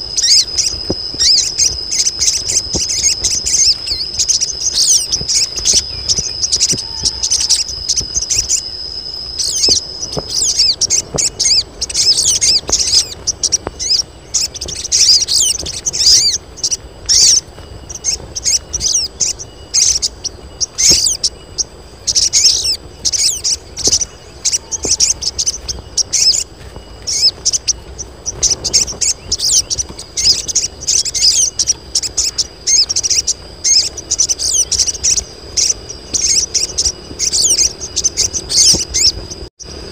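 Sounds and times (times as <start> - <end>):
birds twittering chirps: 0.0 - 39.9
steady high whine: 0.0 - 39.9.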